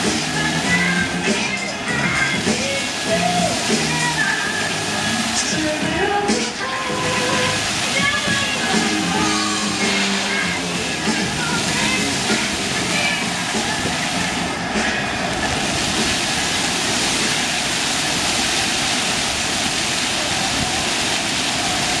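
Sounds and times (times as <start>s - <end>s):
fountain jets splashing: 0.0s - 22.0s.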